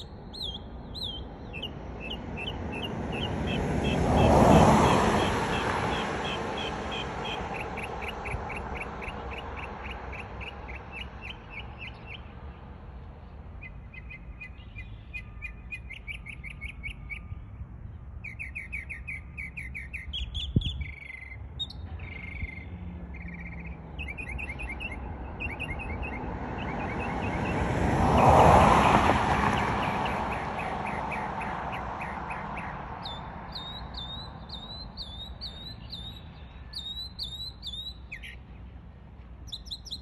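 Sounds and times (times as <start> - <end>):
mockingbird singing: 0.0 - 4.3, 5.9 - 12.3, 13.6 - 17.3, 18.2 - 27.5, 29.6 - 38.4, 39.5 - 40.0
passing traffic hum: 0.0 - 40.0.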